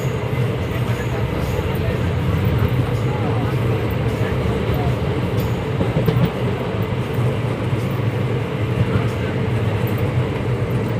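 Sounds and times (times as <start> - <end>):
moving train rumble: 0.0 - 10.9.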